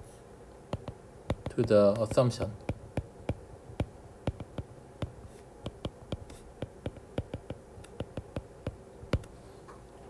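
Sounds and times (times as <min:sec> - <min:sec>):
stylus tapping on glass screen: 0:00.7 - 0:09.3.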